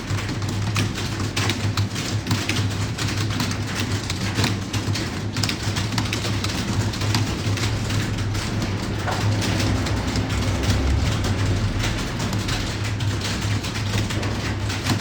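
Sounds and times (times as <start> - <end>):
keyboards typing clatter: 0.0 - 15.0.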